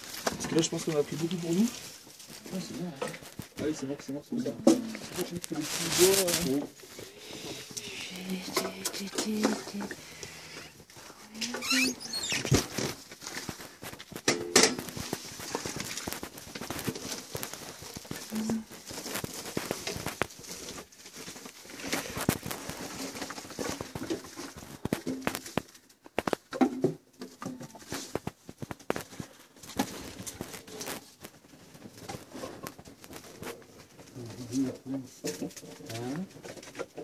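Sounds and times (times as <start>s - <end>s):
firewood knocking and clattering: 0.0s - 34.2s.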